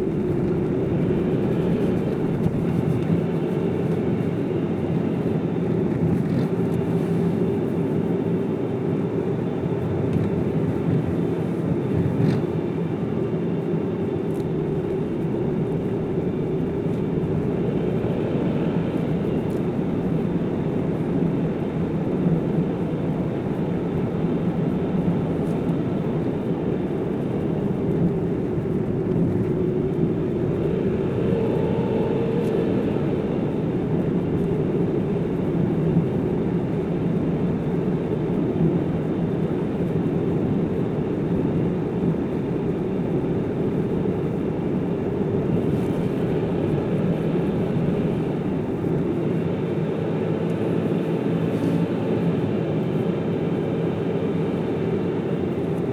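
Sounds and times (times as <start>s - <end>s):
car driving: 0.0s - 8.2s, 14.1s - 55.9s.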